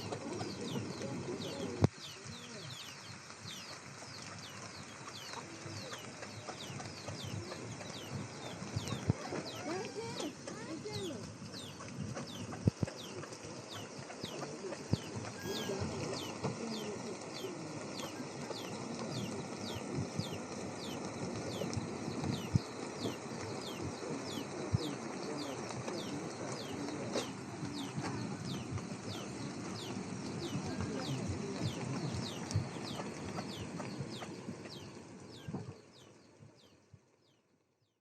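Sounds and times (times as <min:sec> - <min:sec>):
background hiss: 0:00.0 - 0:37.7.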